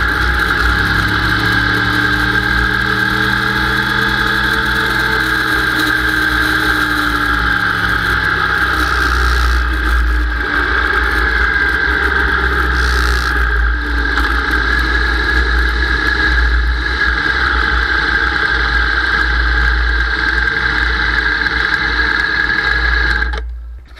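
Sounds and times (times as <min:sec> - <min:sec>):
low wind rumble: 0:00.0 - 0:23.9
motorcycle engine at low revs: 0:00.0 - 0:23.9.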